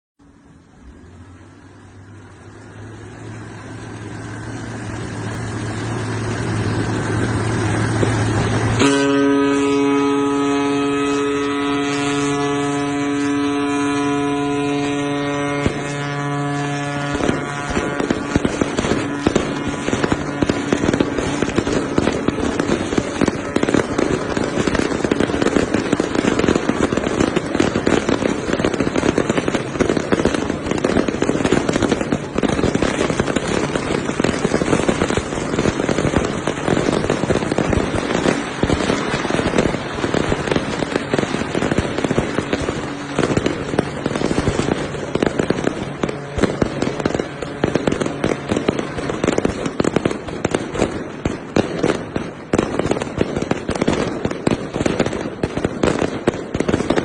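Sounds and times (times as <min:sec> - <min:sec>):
firecrackers crackling: 0:00.2 - 0:57.0
ship's horn: 0:02.1 - 0:50.0.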